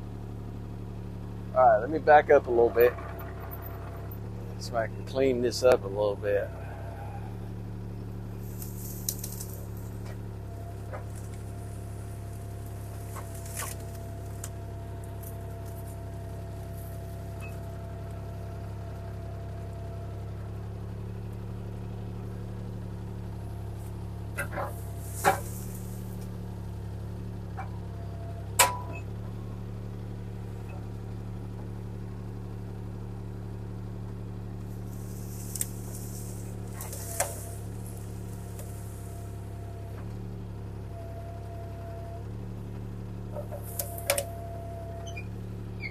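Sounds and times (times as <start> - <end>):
excavator diesel engine humming: 0.0 - 45.9.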